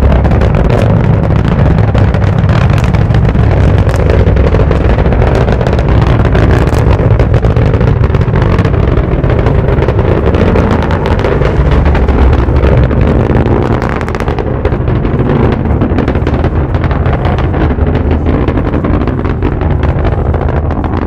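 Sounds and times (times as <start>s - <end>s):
continuous crackling: 0.0s - 21.0s
rocket engines roaring: 0.0s - 21.0s.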